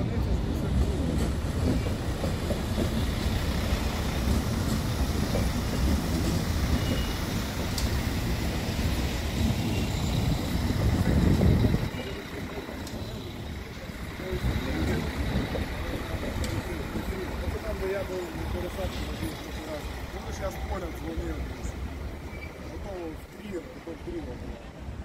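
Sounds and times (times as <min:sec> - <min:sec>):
train passing on rails: 0:00.0 - 0:25.0.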